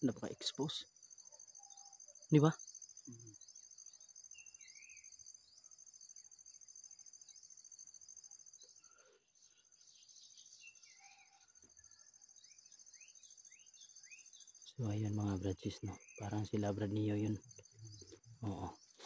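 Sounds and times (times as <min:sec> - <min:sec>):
high pulsing insect trill: 0:00.0 - 0:19.0.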